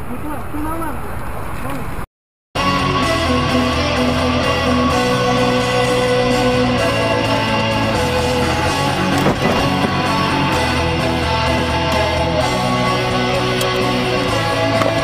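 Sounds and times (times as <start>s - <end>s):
guitar background music: 2.6s - 15.0s.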